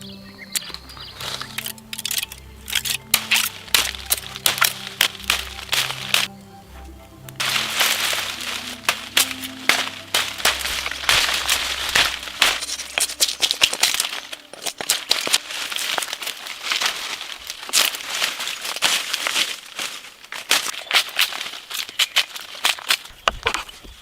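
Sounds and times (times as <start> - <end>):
soft background music: 0.0 - 19.9
dry material crackling and crunching: 0.0 - 24.0.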